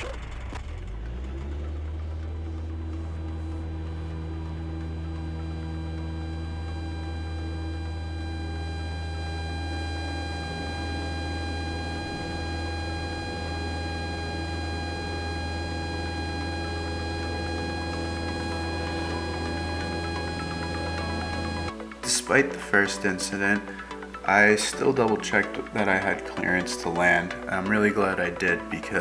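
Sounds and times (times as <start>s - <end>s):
propeller plane engine droning: 0.2s - 26.8s.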